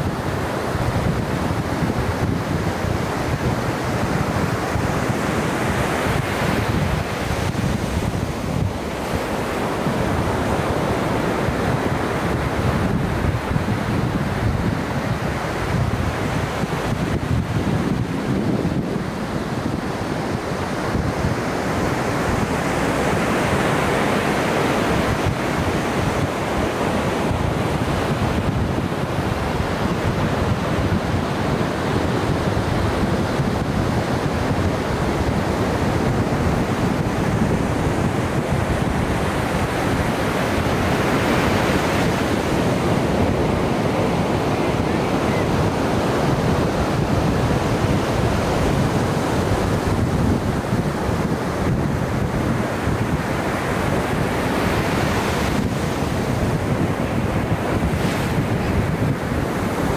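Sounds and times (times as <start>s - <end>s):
waves breaking on beach: 0.0s - 59.9s
wind buffeting microphone: 0.0s - 59.9s.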